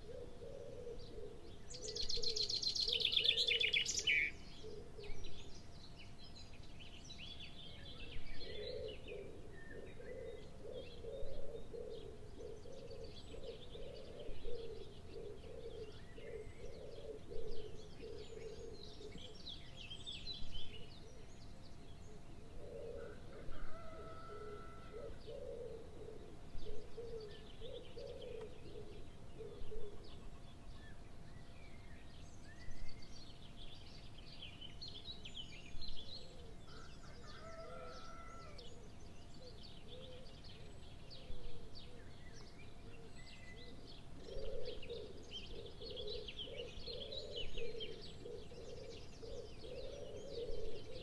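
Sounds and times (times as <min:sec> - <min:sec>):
birds chirping and calling: 0:00.0 - 0:51.0.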